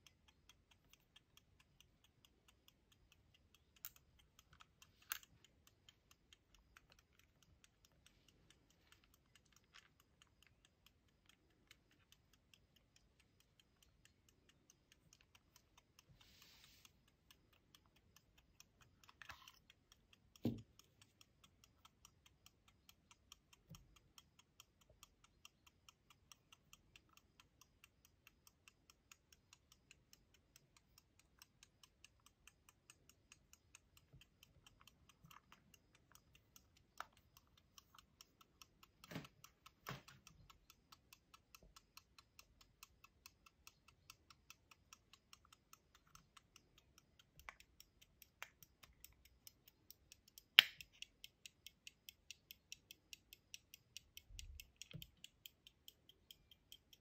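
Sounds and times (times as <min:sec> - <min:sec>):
pocket watch ticking: 0:00.0 - 0:57.0.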